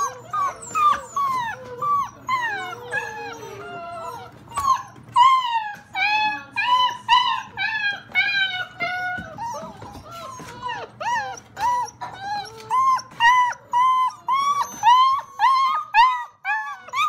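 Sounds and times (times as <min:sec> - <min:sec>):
puppies whining and yelping: 0:00.0 - 0:17.0.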